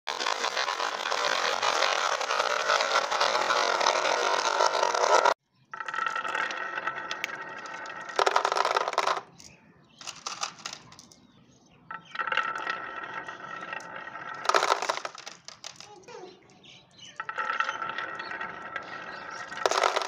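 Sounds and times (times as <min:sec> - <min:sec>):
glass marbles rattling down wood: 0:00.1 - 0:11.3, 0:11.9 - 0:16.2, 0:17.0 - 0:20.0.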